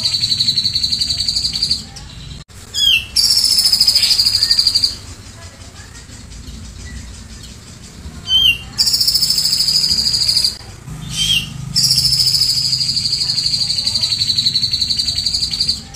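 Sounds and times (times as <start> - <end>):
bird chirping and trilling: 0.0 - 15.9.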